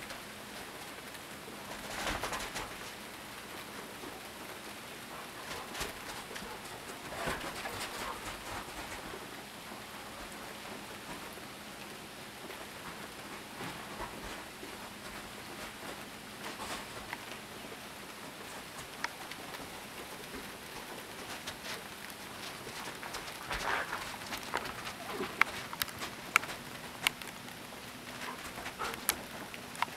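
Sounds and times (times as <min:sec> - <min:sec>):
freezing rain pattering on ice: 0:00.0 - 0:29.9.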